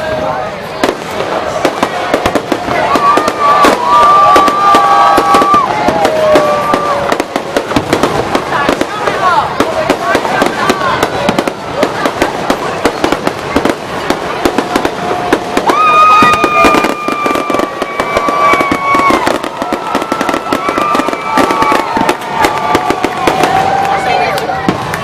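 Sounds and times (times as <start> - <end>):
fireworks popping and crackling: 0.0 - 25.0
fireworks whistling: 0.0 - 25.0.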